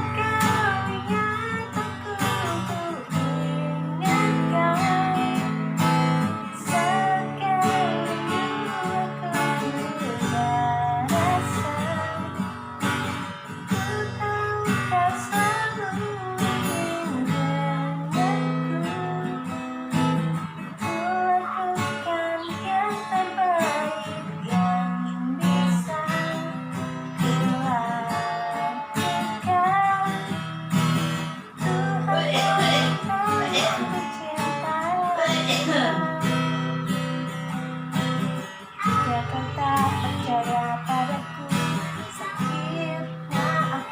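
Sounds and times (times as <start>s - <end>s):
acoustic guitar strumming: 0.0s - 43.9s
woman singing: 0.0s - 43.9s.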